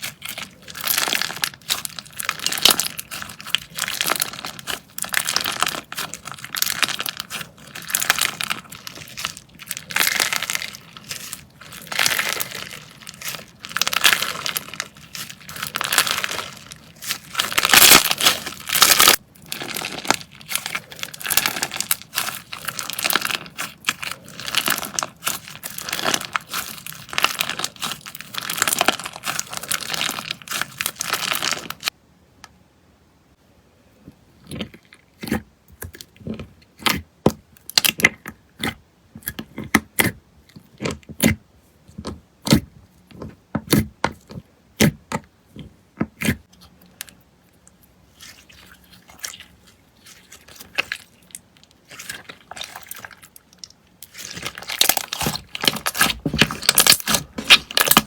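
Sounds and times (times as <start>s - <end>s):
slime crackling and crinkling: 0.0s - 32.0s, 34.3s - 58.0s.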